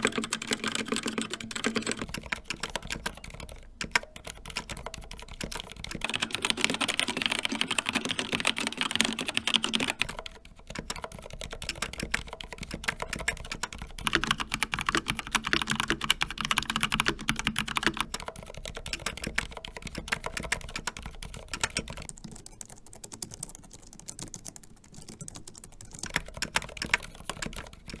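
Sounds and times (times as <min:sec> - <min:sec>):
soft scissor-switch keyboard typing: 0:00.0 - 0:28.0.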